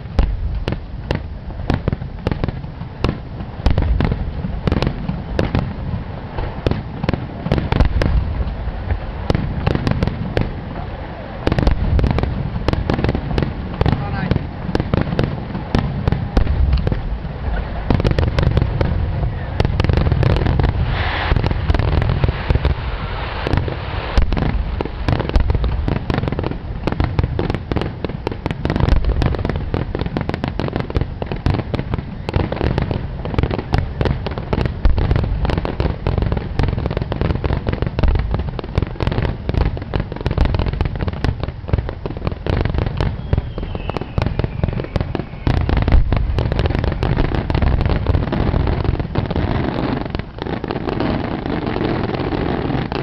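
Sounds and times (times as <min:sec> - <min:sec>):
fireworks booming and crackling: 0:00.0 - 0:53.0.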